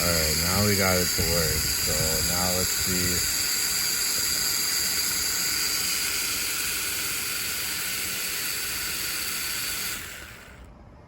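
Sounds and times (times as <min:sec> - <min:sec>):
hiss: 0:00.0 - 0:10.6
drone propellers whining: 0:00.0 - 0:10.8.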